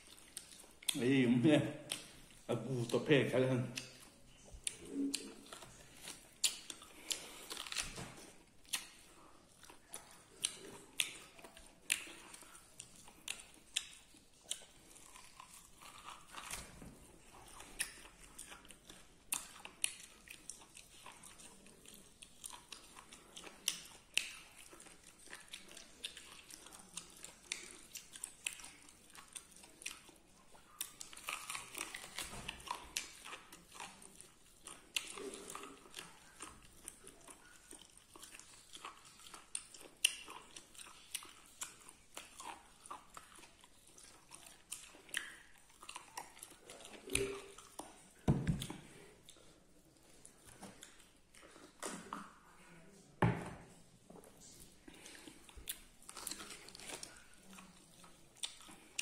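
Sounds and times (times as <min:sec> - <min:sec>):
person chewing wetly: 0:00.0 - 0:59.0.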